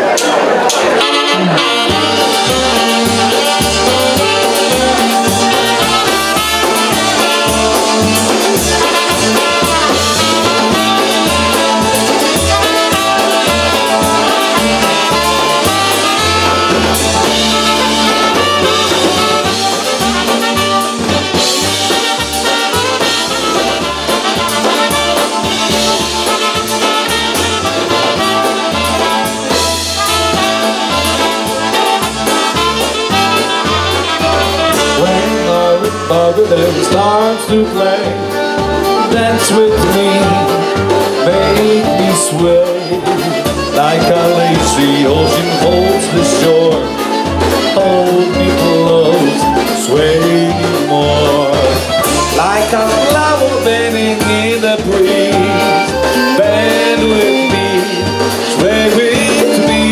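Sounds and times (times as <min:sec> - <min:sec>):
accordion: 0:00.0 - 0:59.9
bass line: 0:00.0 - 0:59.9
drums: 0:00.0 - 0:59.9
saxophones: 0:00.0 - 0:59.9
trumpet: 0:00.0 - 0:59.9.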